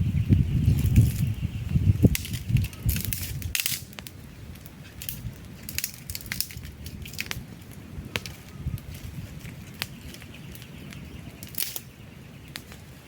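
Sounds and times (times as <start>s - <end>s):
campfire crackling and popping: 2.0s - 12.9s.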